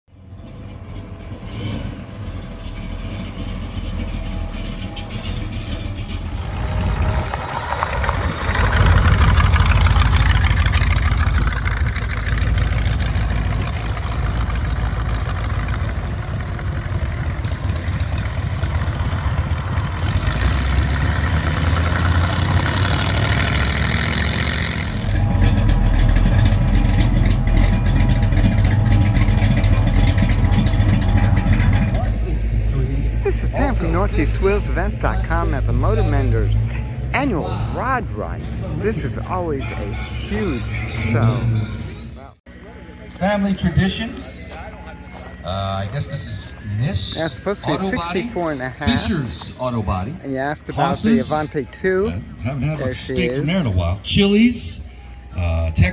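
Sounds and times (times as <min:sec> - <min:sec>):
car engines idling and revving: 0:00.1 - 0:55.9.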